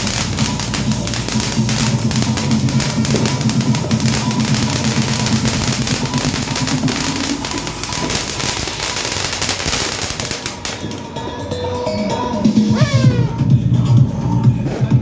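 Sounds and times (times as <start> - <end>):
fireworks popping and crackling: 0.0 - 13.5.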